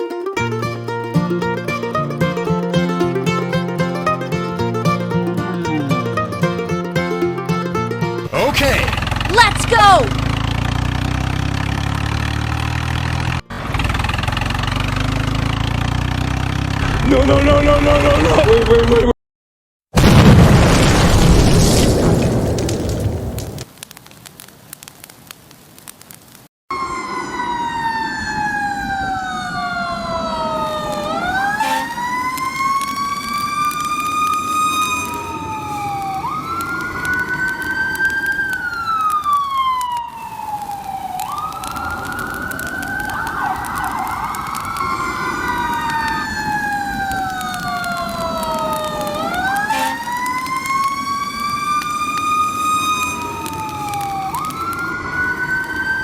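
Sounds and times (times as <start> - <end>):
emergency sirens wailing: 0.0 - 16.2, 16.8 - 19.0, 26.7 - 56.0.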